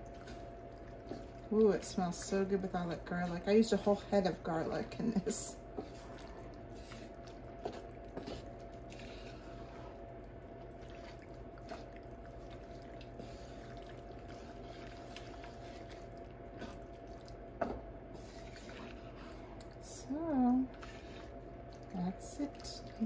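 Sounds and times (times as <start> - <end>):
faint steady hum: 0.0 - 23.0
wet squishing of stirred food: 0.0 - 23.0.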